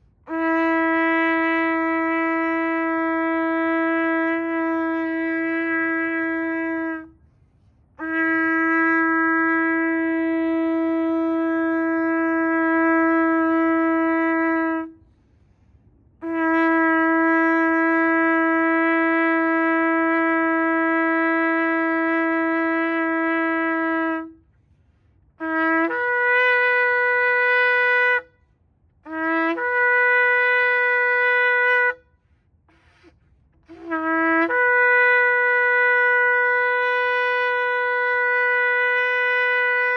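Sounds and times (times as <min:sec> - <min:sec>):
shofar blasts: 0:00.0 - 0:39.9.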